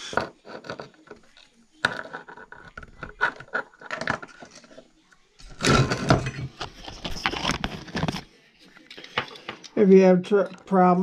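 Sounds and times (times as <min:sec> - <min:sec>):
tools clattering and rubbing: 0:00.0 - 0:09.8.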